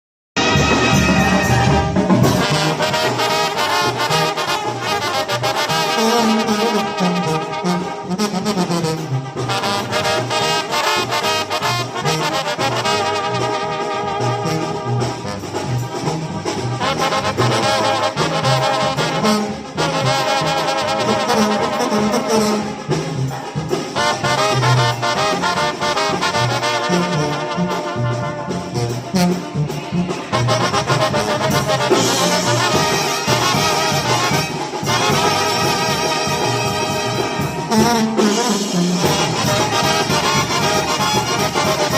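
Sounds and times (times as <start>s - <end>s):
brass band music with trombones: 0.4s - 41.9s.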